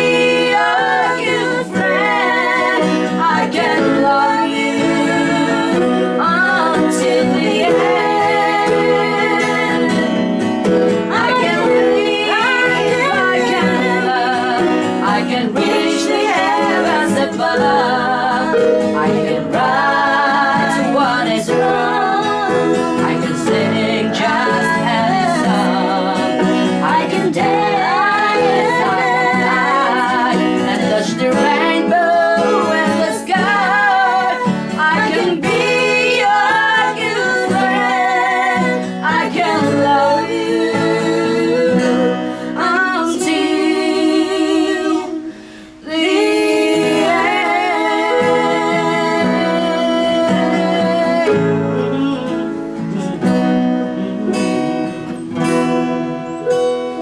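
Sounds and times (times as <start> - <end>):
acoustic guitar: 0.0 - 57.0.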